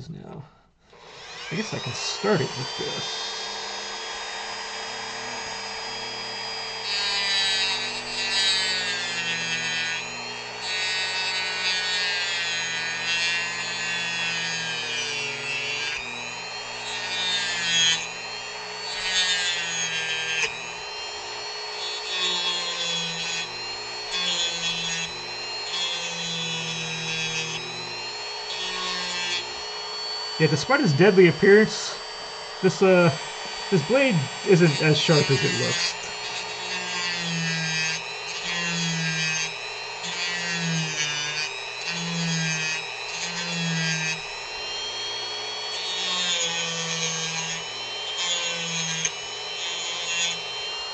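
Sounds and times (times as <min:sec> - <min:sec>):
rotary tool cutting wood: 0:00.9 - 0:50.9.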